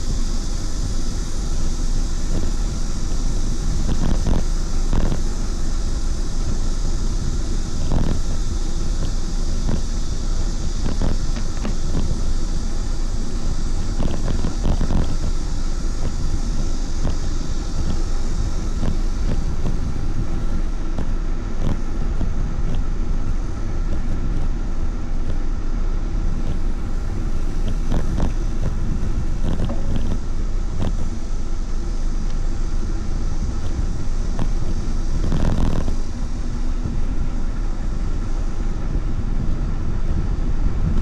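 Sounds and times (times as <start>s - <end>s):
bicycle road noise: 0.0s - 41.0s
wind rush on microphone: 0.0s - 41.0s.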